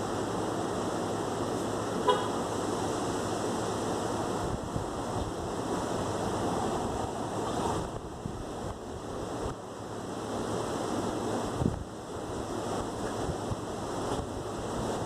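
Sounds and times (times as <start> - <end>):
steady rain hissing: 0.0 - 15.0.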